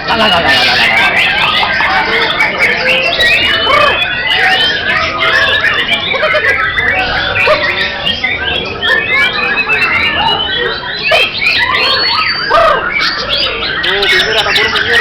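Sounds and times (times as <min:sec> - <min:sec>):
birds whistling and trilling: 0:00.0 - 0:15.0.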